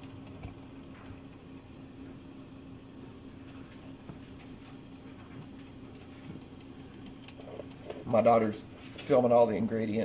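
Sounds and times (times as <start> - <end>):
syrup bubbling in a saucepan: 0.0 - 10.0.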